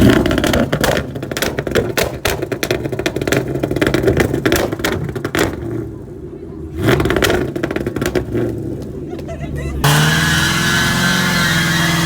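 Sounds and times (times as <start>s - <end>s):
car engine revving with crackle: 0.0s - 12.0s.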